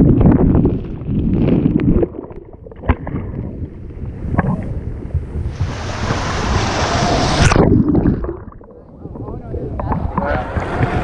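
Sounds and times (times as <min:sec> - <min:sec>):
waves churning rumble: 0:00.0 - 0:11.0.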